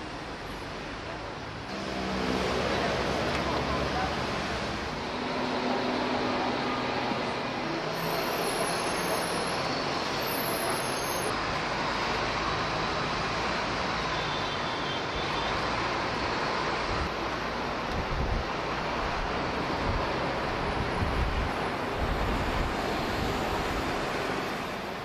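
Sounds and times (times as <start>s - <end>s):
cars and buses passing: 0.0s - 25.0s.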